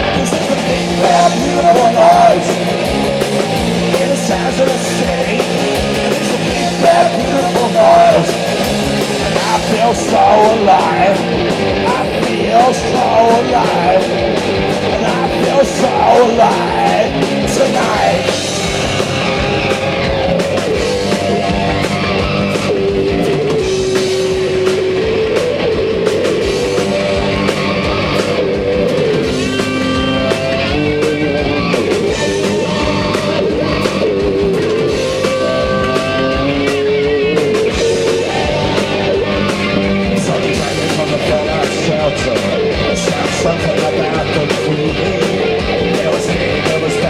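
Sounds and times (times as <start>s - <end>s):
melodic electric guitar: 0.0s - 47.0s
rock band playing live: 0.0s - 47.0s
steady drum beat: 0.0s - 47.0s.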